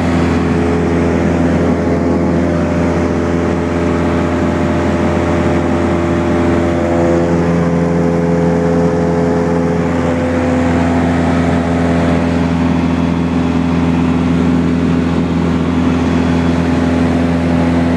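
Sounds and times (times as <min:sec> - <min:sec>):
aircraft engine droning in cabin: 0:00.0 - 0:17.9.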